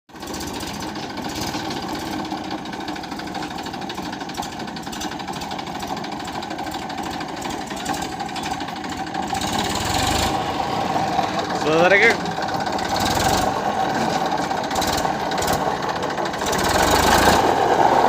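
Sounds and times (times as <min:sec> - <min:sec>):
tractor diesel engine knocking: 0:00.1 - 0:18.0.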